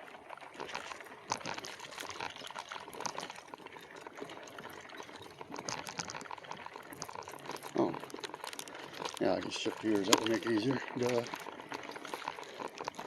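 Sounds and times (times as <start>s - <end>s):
ice water sloshing in bottle: 0.0s - 13.0s.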